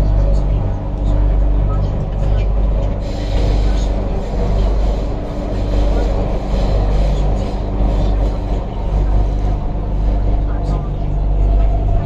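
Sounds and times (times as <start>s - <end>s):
metro train cabin rumble: 0.0s - 12.0s.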